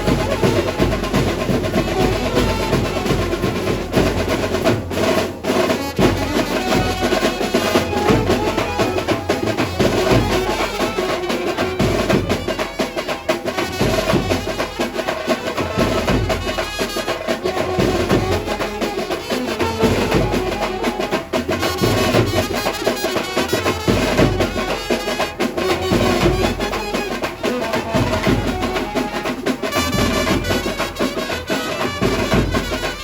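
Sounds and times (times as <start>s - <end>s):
saxophones playing melody: 0.0s - 4.5s, 5.7s - 33.0s
dense drumming and percussion: 0.0s - 33.0s.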